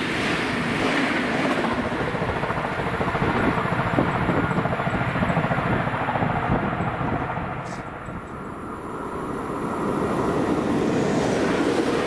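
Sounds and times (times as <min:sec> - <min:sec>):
train wheels on rails: 0:00.0 - 0:05.5, 0:07.6 - 0:12.0
low train rumble: 0:00.0 - 0:12.0.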